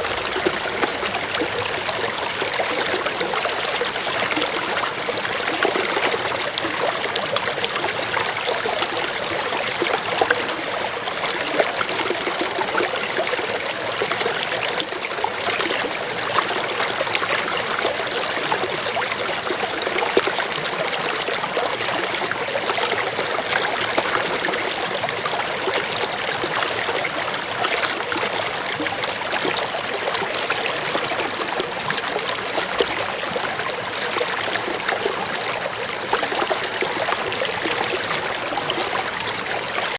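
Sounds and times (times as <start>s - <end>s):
small water splashes: 0.0s - 39.9s
water rushing: 0.0s - 39.9s.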